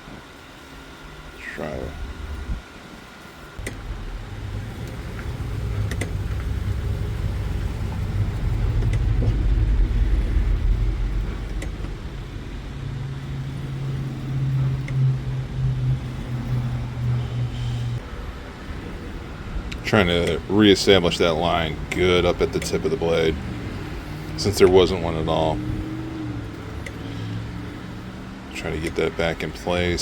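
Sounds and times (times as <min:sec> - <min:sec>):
sharpening hone motor humming: 0:00.6 - 0:30.0
steady low tone: 0:03.6 - 0:30.0.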